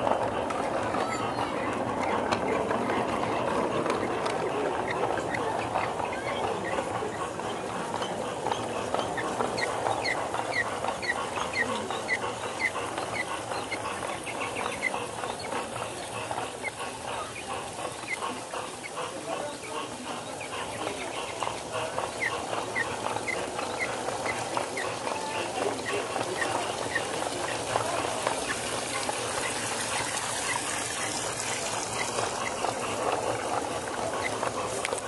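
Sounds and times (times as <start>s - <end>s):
toy train wheels clattering on track: 0.0s - 35.0s.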